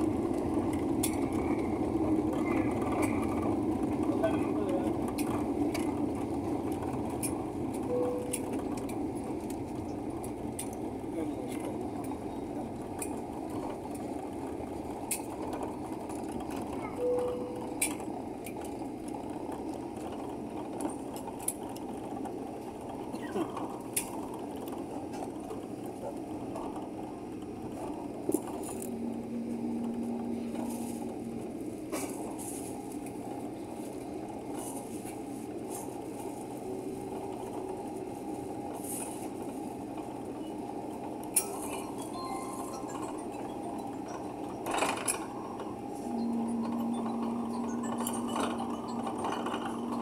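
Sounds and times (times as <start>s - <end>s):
aircraft cabin engine hum: 0.0s - 50.0s.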